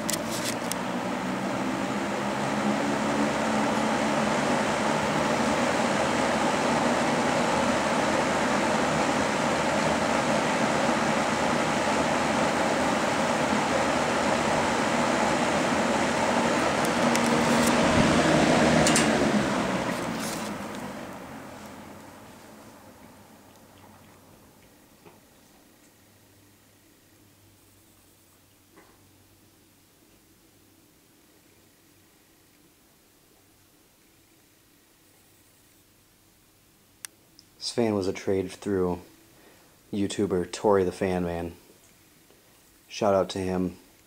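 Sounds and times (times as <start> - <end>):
box fan running: 0.0 - 44.0.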